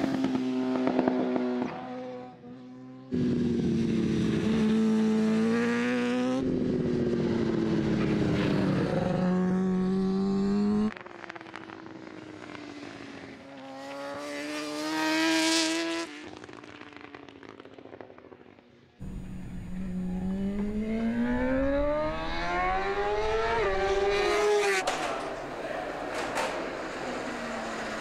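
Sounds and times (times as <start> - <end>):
motorcycle engine at high revs: 0.0 - 16.8, 19.0 - 24.8.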